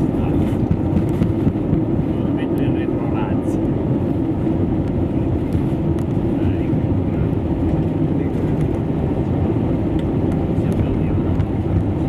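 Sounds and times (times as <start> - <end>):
aircraft engine noise: 0.0 - 12.0
wheels rumbling: 0.0 - 12.0.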